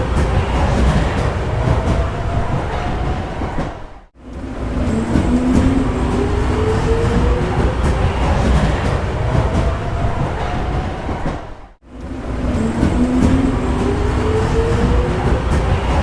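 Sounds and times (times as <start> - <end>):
subway train rumbling and rattling: 0.0 - 16.0.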